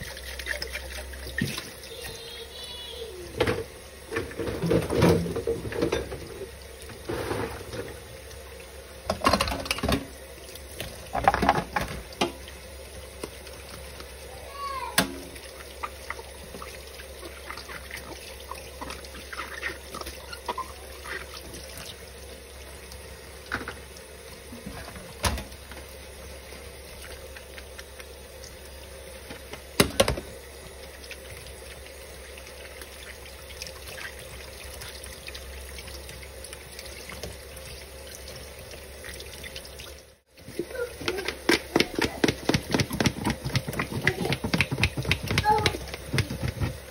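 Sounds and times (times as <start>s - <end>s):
faucet running into sink: 0.0s - 46.9s.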